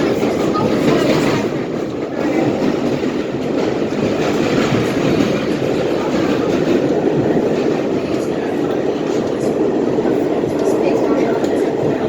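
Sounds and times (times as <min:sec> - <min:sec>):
train rumbling along tracks: 0:00.0 - 0:12.0.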